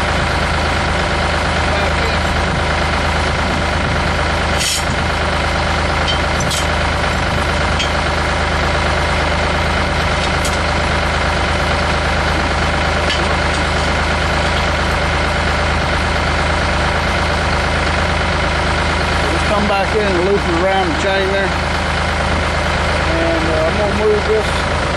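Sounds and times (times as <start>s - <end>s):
tractor engine idling: 0.0s - 24.9s.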